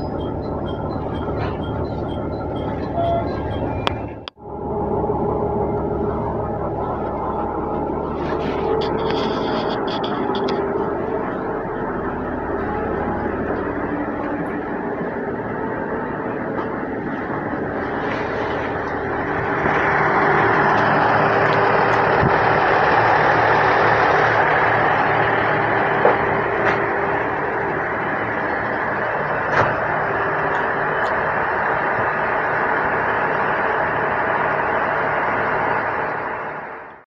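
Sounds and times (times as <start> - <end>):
diesel railcar engine running: 0.0 - 37.0.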